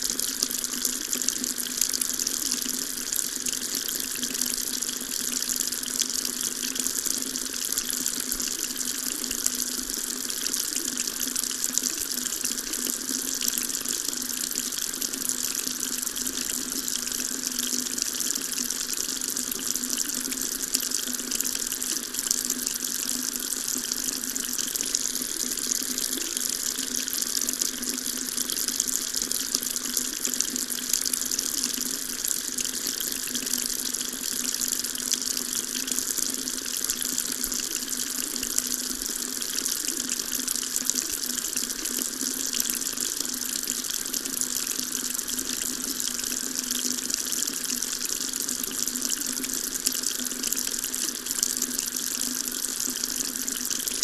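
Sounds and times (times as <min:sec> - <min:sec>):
tap water running into sink: 0:00.0 - 0:54.0.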